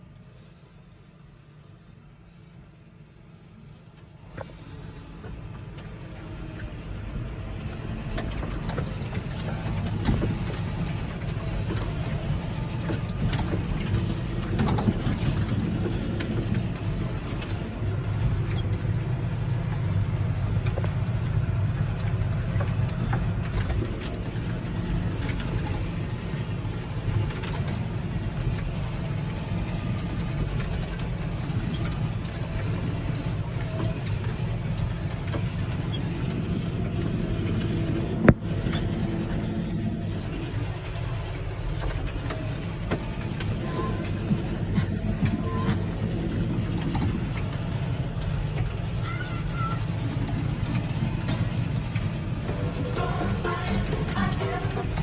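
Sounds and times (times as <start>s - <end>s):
tractor diesel engine droning: 0.0s - 55.0s.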